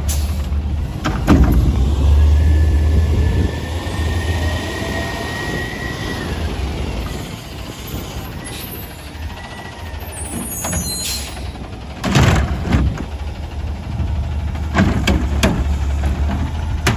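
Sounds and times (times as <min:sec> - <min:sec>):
diesel engine low rumble: 0:00.0 - 0:16.9.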